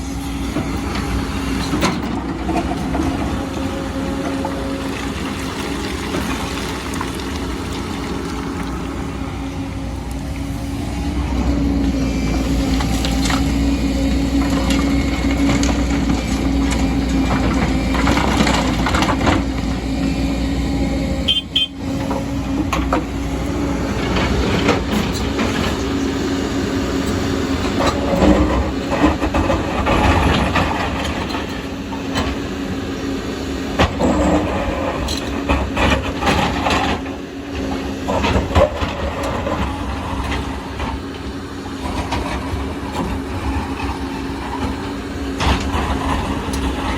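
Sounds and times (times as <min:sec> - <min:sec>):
excavator engine hum: 0:00.0 - 0:46.9.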